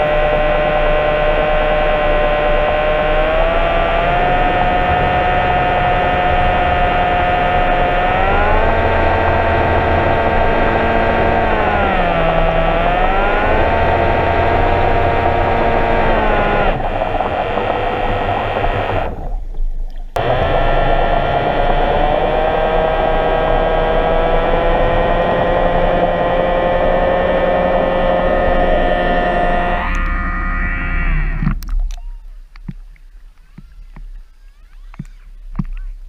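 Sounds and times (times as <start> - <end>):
engine running: 0.0 - 31.7.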